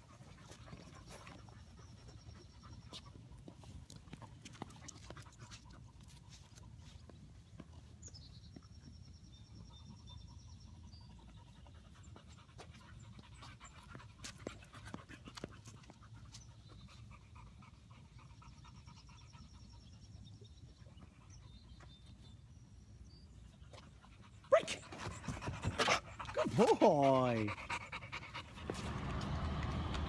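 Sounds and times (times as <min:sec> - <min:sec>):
dog panting: 0:00.0 - 0:08.0, 0:09.5 - 0:22.2, 0:23.5 - 0:30.0.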